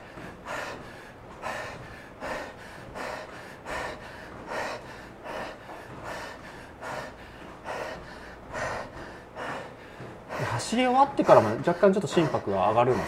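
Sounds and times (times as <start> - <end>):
man breathing hard and gasping: 0.0 - 13.0.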